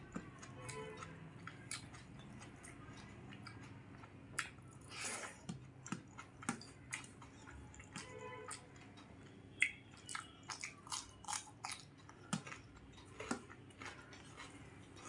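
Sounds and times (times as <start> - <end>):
chewing with wet mouth clicks: 0.0 - 15.0.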